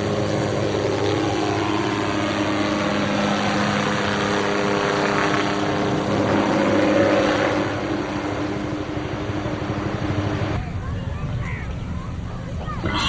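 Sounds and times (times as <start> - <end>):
helicopter engine and rotor hum: 0.0 - 13.0.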